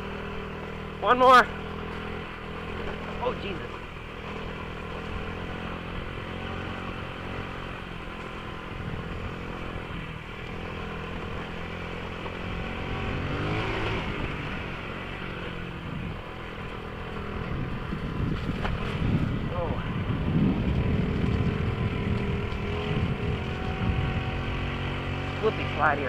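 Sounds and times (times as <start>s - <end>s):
small motorbike engine revving: 0.0s - 26.0s.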